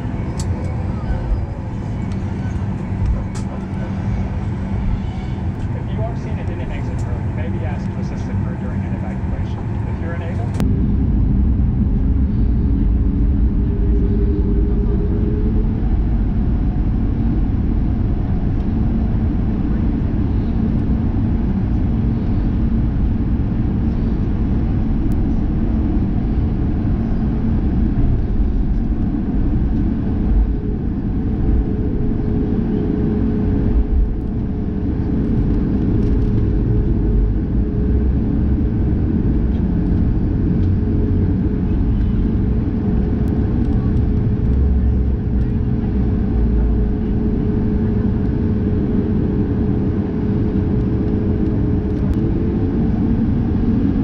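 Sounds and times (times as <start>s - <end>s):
jet engines at taxi power: 0.0s - 54.0s
steady hum: 0.0s - 54.0s.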